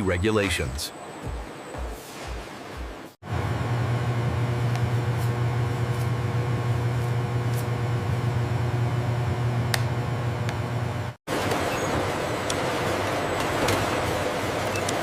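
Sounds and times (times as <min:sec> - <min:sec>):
factory machinery hum: 0:00.0 - 0:15.0.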